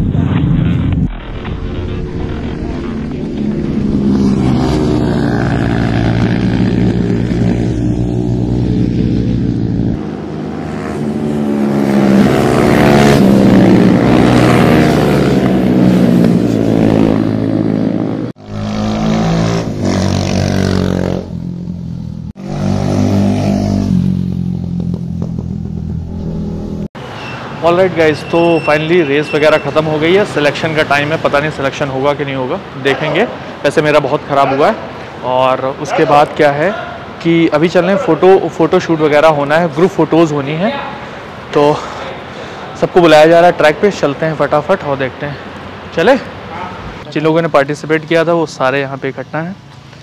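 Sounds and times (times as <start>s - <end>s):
racing motorcycle engines: 1.9s - 50.0s.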